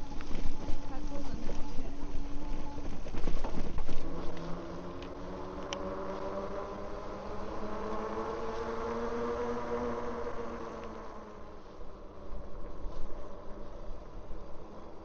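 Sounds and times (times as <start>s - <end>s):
small motor whining: 0.0s - 15.0s.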